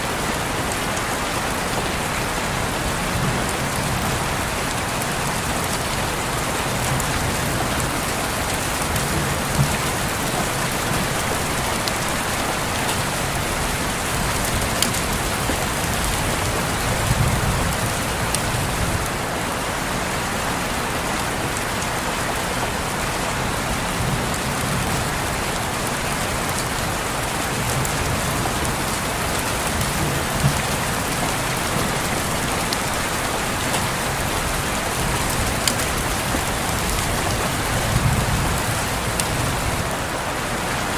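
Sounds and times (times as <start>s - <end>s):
rain on a window pane: 0.0s - 40.9s.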